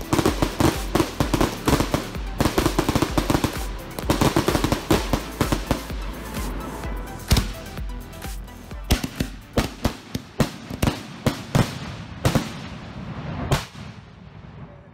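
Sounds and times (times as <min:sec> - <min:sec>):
fireworks bangs: 0:00.0 - 0:06.6, 0:08.8 - 0:14.9.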